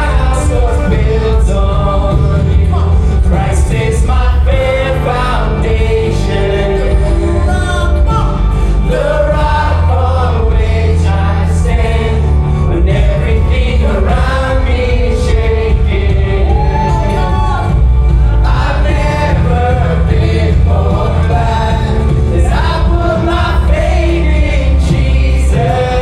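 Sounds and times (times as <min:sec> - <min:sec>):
band with heavy bass: 0:00.0 - 0:26.0
group singing gospel: 0:00.0 - 0:26.0.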